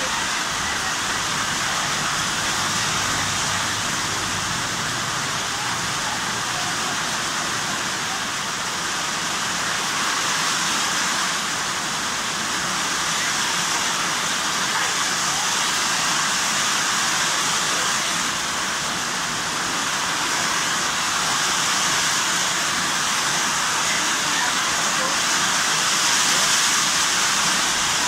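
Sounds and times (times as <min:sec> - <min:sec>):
heavy rain on metal roof: 0:00.0 - 0:28.0.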